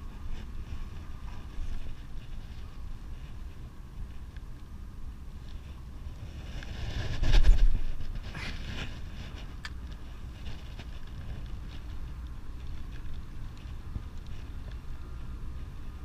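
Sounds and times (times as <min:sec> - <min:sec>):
low wind rumble: 0:00.0 - 0:16.0
wind rush on microphone: 0:00.0 - 0:16.0.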